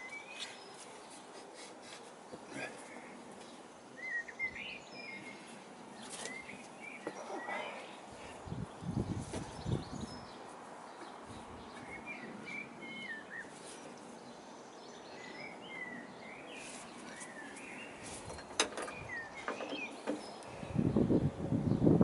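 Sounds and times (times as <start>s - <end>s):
low steady background noise: 0.0s - 22.0s
small birds chirping: 0.0s - 22.0s.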